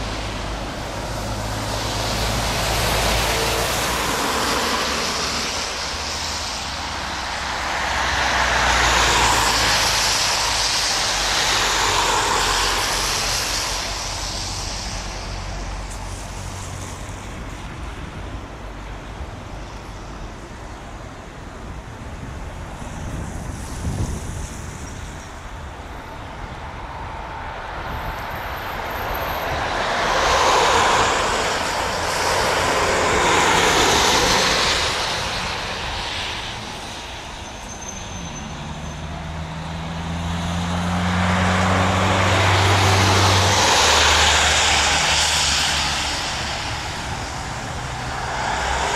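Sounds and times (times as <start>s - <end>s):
jet engines running: 0.0s - 21.8s, 22.5s - 38.4s, 41.5s - 48.9s.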